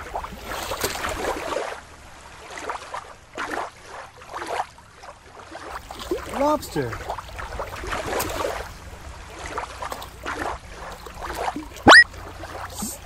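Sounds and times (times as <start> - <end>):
water lapping against rocks: 0.0 - 13.0.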